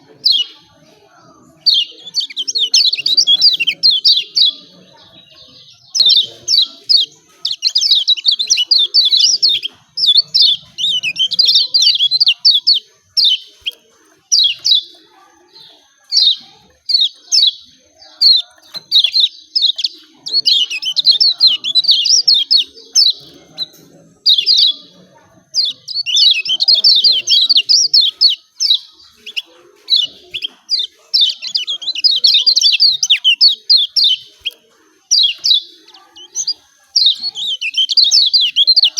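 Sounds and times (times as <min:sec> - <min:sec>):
bird chirping rapidly: 0:01.5 - 0:38.9.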